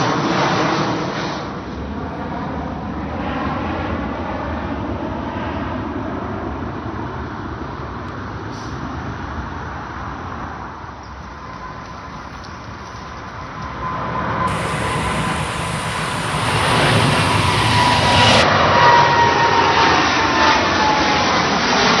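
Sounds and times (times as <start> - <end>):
jet airliner roar: 0.0 - 22.0
jet engine whine: 0.0 - 22.0.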